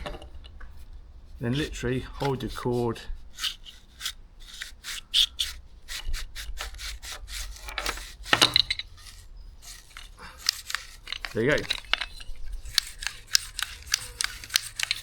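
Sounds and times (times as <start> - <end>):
rope scraping through starter housing: 0.0 - 15.0.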